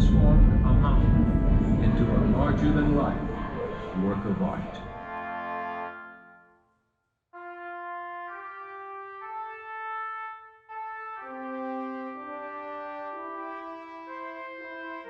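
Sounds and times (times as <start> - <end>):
slow brass chords: 0.0 - 6.6, 7.4 - 15.0.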